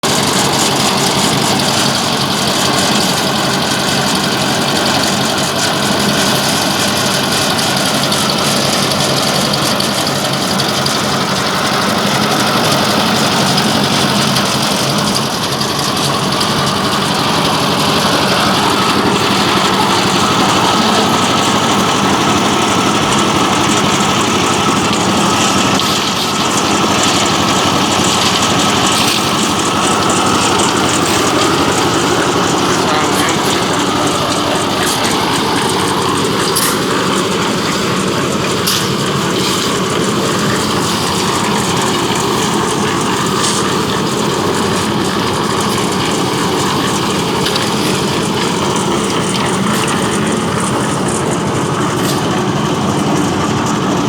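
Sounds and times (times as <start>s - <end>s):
concrete mixer engine running: 0.0s - 54.0s.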